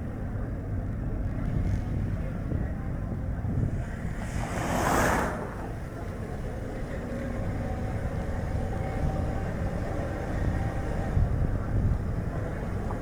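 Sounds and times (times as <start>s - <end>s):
wind buffeting the microphone: 0.0s - 13.0s
tyre and road noise: 1.2s - 13.0s.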